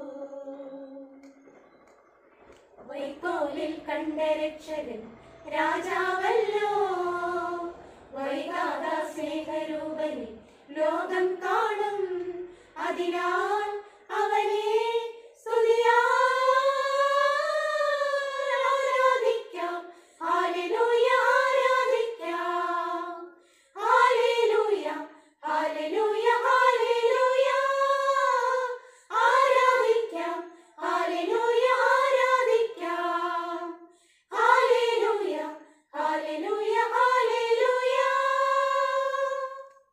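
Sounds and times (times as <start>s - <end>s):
women's choir singing: 2.8s - 39.9s.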